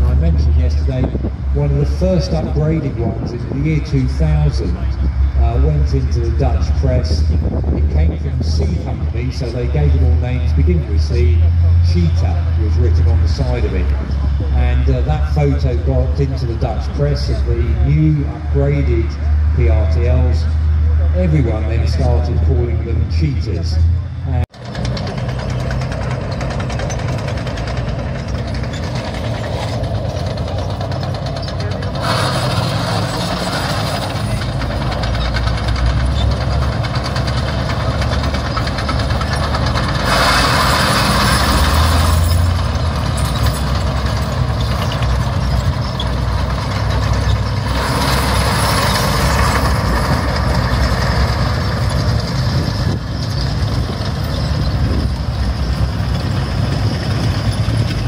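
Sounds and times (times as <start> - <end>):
tanks driving past: 0.0 - 58.0.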